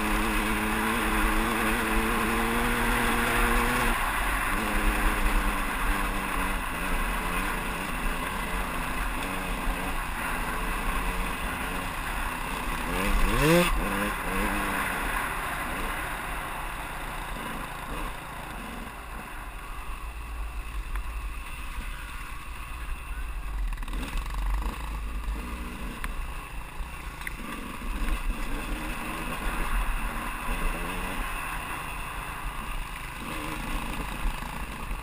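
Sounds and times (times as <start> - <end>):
two-stroke engine revving: 0.0 - 19.3, 21.8 - 35.0.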